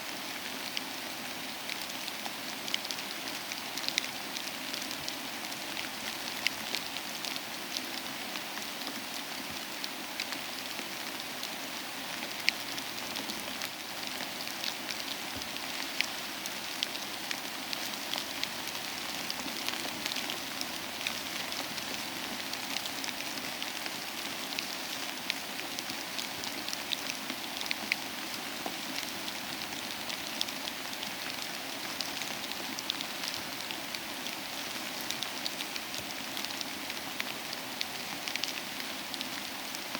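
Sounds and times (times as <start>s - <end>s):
soft rain: 0.0s - 39.9s.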